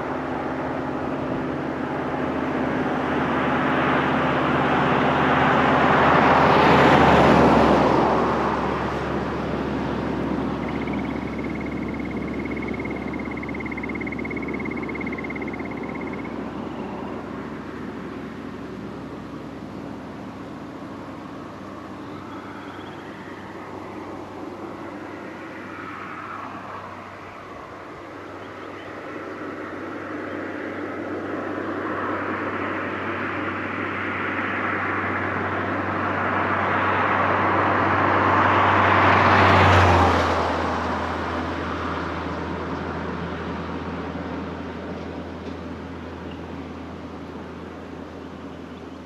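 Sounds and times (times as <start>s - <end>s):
vehicle passing by: 0.0s - 49.0s.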